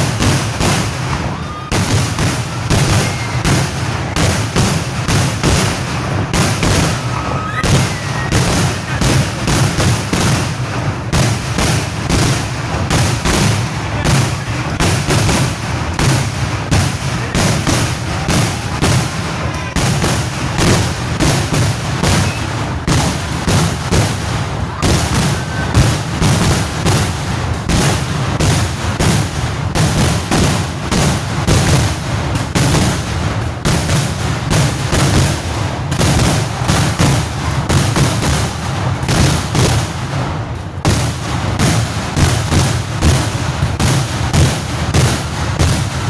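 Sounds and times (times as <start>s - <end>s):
firecrackers rapid barrage: 0.0s - 46.0s.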